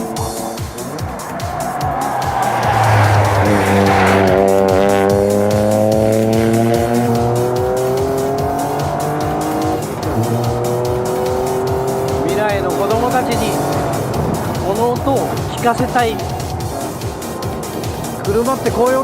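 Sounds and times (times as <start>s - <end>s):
engine accelerating: 0.0s - 19.0s.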